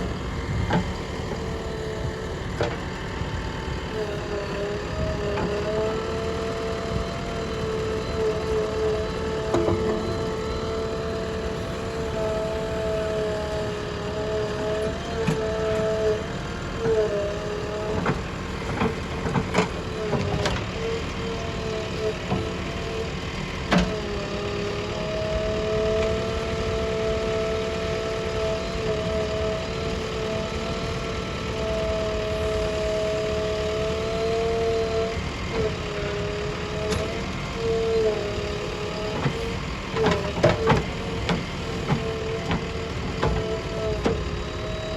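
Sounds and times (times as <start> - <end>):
constant mechanical whine: 0.0 - 44.9
diesel engine of heavy machinery: 0.0 - 44.9.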